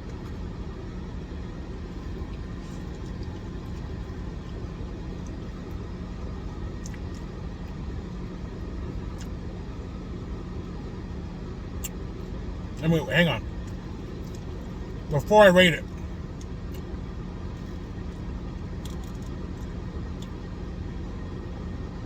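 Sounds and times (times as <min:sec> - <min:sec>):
faint hum: 0:00.0 - 0:22.0
vehicle engine idling: 0:00.0 - 0:22.0.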